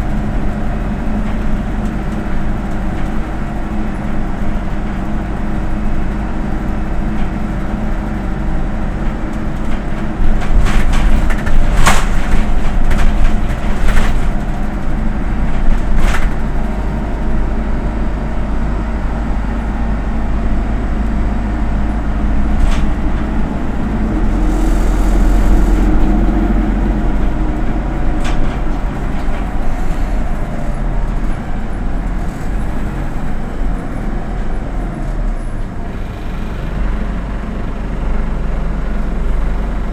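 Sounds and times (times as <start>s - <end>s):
bus body knocks and rattles: 0.0s - 39.9s
bus engine hum and road rumble: 0.0s - 39.9s.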